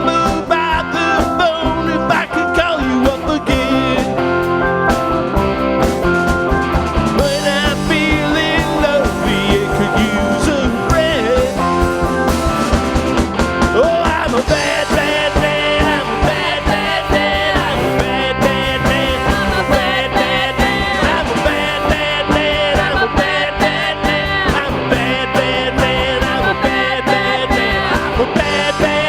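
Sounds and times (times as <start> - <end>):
live rock band playing: 0.0 - 29.0
wavering lead guitar notes: 0.0 - 29.0.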